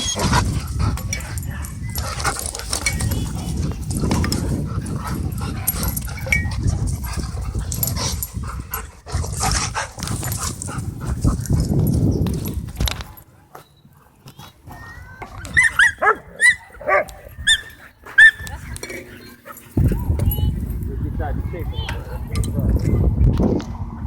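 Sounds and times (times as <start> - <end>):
dogs playing and vocalizing: 0.0 - 23.2.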